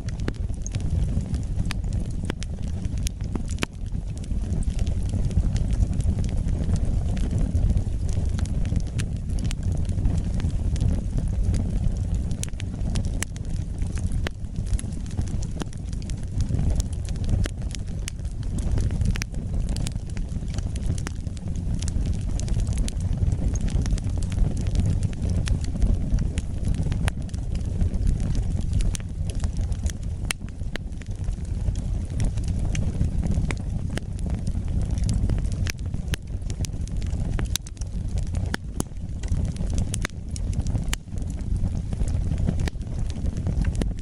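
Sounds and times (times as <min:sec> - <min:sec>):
burning wood crackling and popping: 0:00.0 - 0:44.0
low rumble of flames: 0:00.0 - 0:44.0.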